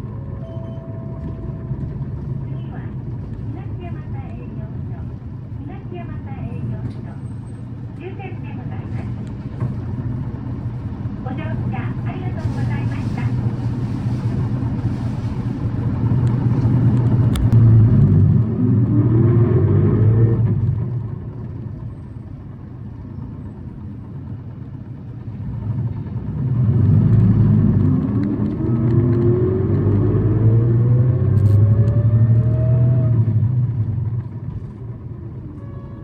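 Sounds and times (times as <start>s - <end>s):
bus engine whining: 0.0s - 36.0s.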